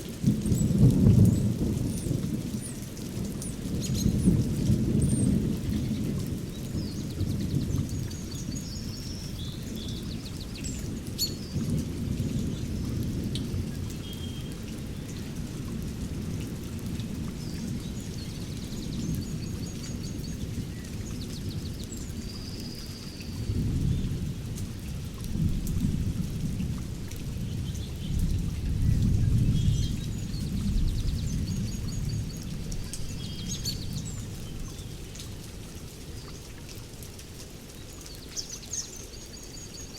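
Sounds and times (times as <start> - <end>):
steady rain: 0.0 - 39.9
low thunder rumbling: 0.2 - 21.9, 23.4 - 35.0.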